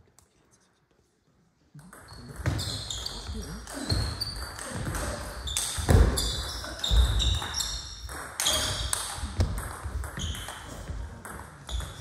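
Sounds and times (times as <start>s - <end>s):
shoes squeaking on floor: 2.1s - 12.0s.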